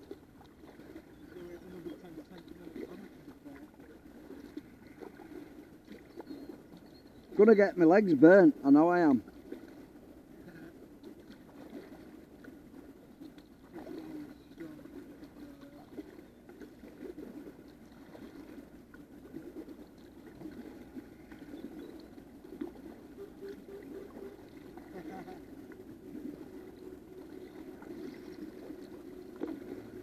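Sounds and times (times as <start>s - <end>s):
kayak paddle strokes sloshing: 0.0s - 30.0s.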